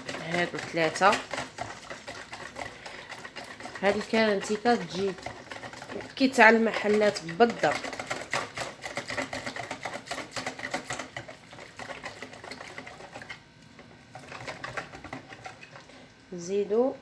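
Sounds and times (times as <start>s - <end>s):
batter whisked in a bowl: 0.0s - 17.0s.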